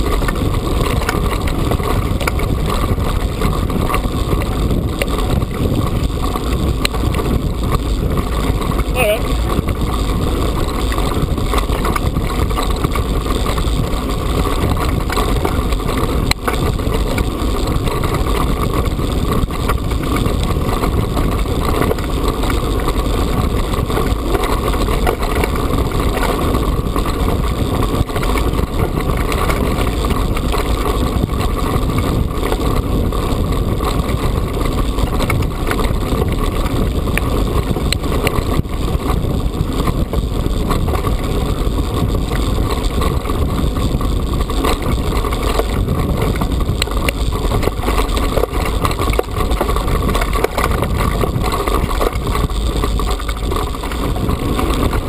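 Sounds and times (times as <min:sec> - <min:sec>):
bike tyres rumbling over stones: 0:00.0 - 0:55.0
wind noise on microphone: 0:00.0 - 0:55.0.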